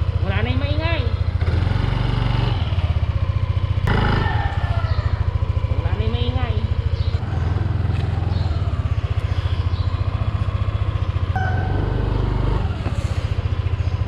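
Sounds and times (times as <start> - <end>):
scooter engine passing: 0.0 - 14.0.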